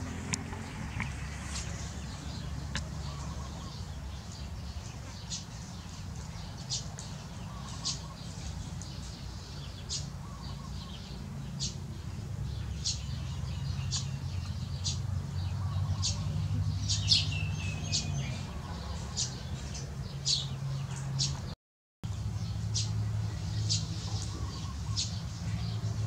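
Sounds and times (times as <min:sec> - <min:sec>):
small bird chirping: 0:00.3 - 0:21.5, 0:22.1 - 0:26.0.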